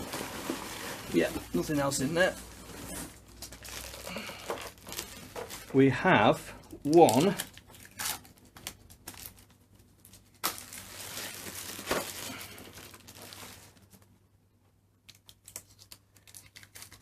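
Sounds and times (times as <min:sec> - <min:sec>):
plastic packaging crinkling: 0:00.0 - 0:05.8, 0:06.7 - 0:14.2, 0:15.1 - 0:17.0.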